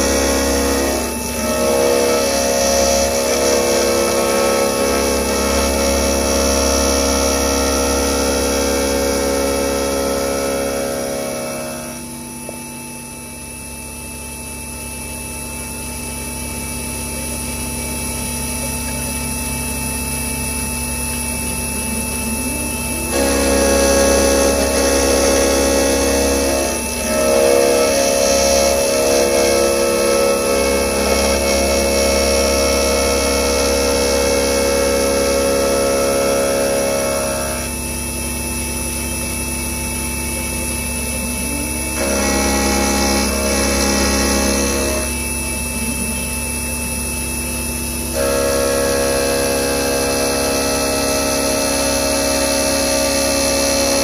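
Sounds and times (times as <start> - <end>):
milling machine cutting whine: 0.0 - 54.0.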